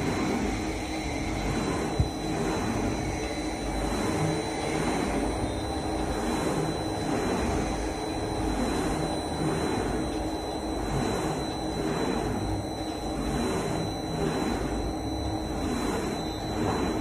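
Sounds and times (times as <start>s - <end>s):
elevator machine rumbling: 0.0s - 17.0s
faint high whine: 0.0s - 17.0s.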